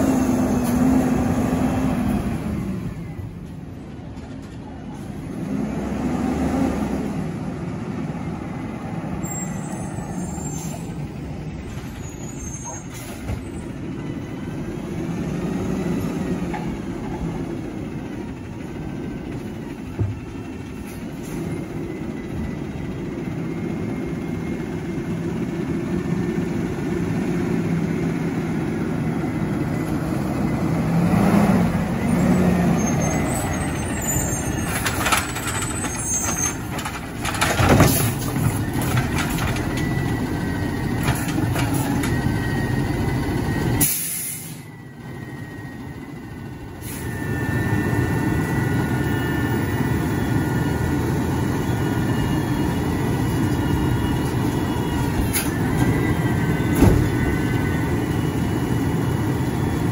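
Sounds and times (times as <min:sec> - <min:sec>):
garbage truck engine hum: 0:00.0 - 0:59.9.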